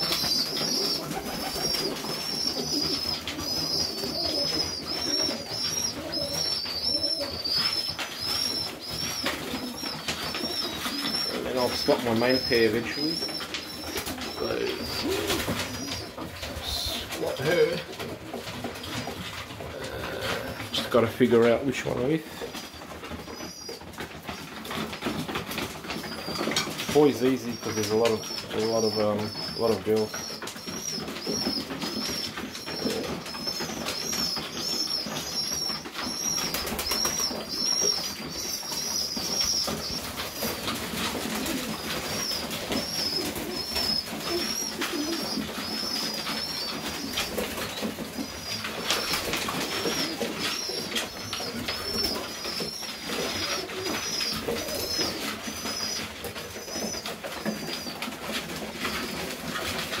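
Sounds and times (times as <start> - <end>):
pigeons cooing: 0.0 - 60.0.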